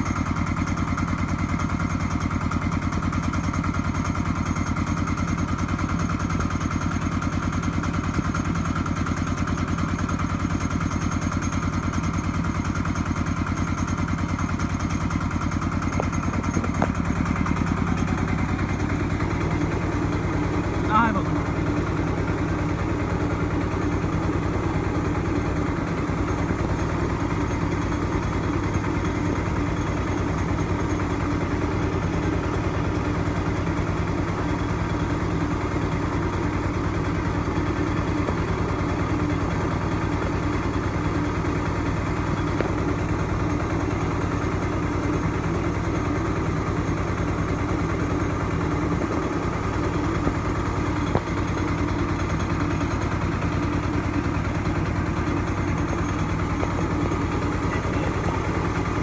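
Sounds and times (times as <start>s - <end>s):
rice mill machine hum: 0.0s - 59.0s.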